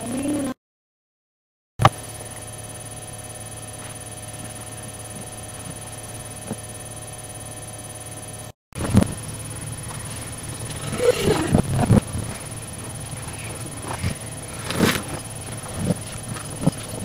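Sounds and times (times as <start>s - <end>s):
electrical hum with high whine: 1.8s - 17.0s.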